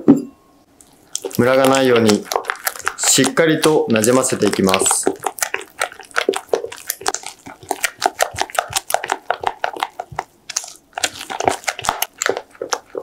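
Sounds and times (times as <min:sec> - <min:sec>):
spatula stirring thick batter: 0:00.8 - 0:13.0.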